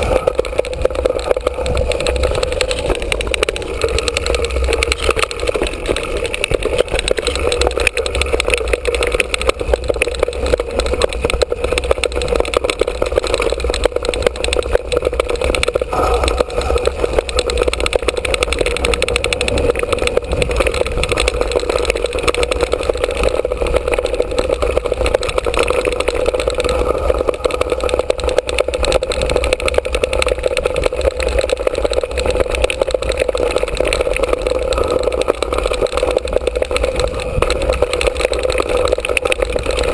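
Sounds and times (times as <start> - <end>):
bike rattling and knocking: 0.0 - 39.9.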